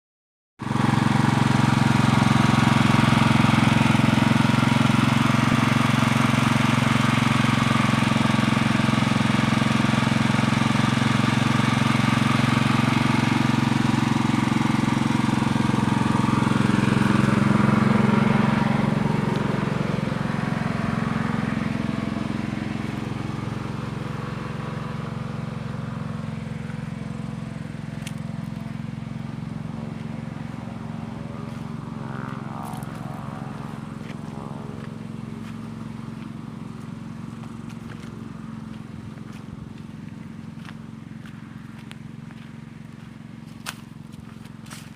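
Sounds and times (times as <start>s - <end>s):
pressure washer humming: 0.6s - 44.9s.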